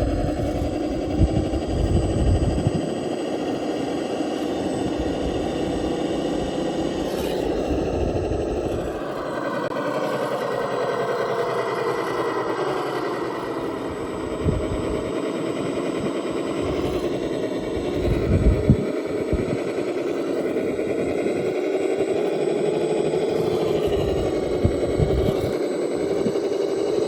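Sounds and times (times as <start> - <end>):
electric motor and gears whining: 0.0 - 27.0.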